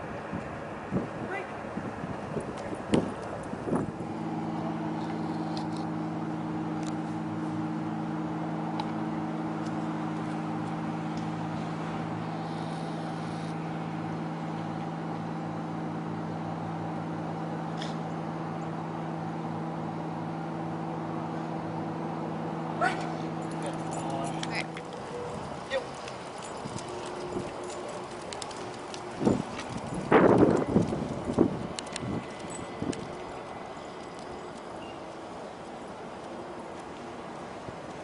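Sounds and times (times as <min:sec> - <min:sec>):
steady machine hum: 0:03.2 - 0:38.0.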